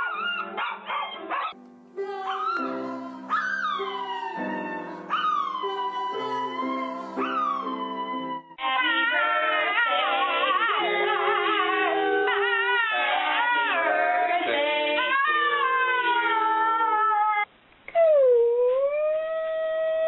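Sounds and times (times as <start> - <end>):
dog howling: 0.0 - 20.0.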